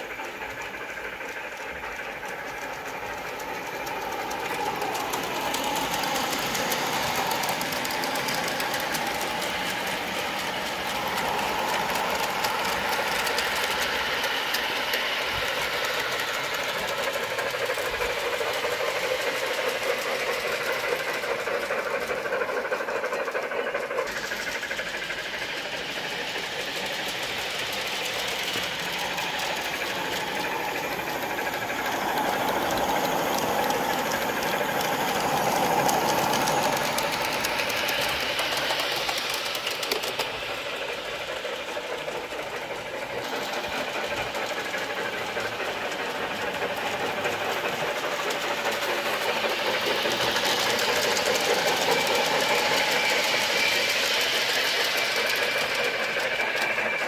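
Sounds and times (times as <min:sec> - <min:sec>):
model train clattering on track: 0:00.0 - 0:57.0.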